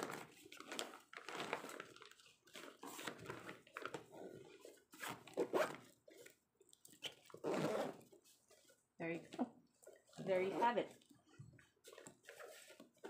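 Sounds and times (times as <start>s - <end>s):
fabric cooler bag rustling: 0.0s - 6.3s, 7.3s - 13.0s.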